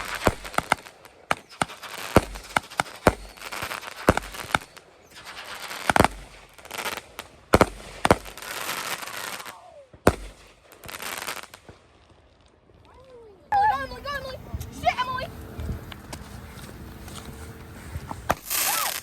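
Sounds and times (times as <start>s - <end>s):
fireworks bangs: 0.0s - 12.8s, 13.5s - 19.0s
fireworks crackling: 0.0s - 19.0s.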